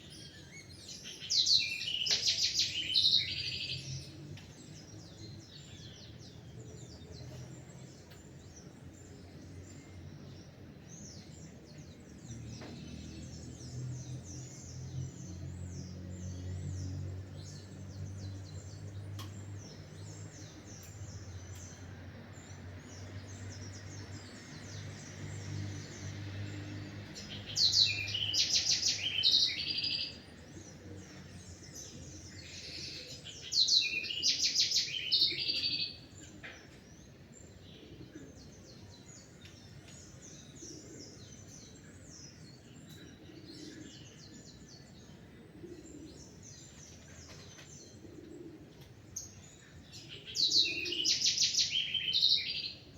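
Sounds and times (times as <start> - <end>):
bird singing loud rapid phrases: 0.0 - 52.9
songbirds chirping: 0.0 - 52.9.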